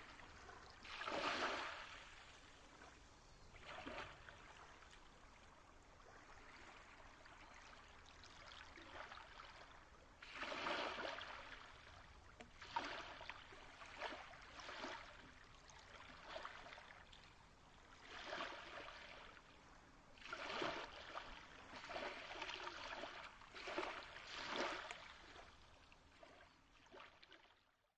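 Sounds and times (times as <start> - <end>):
soft hiss of moving water: 0.0 - 27.7.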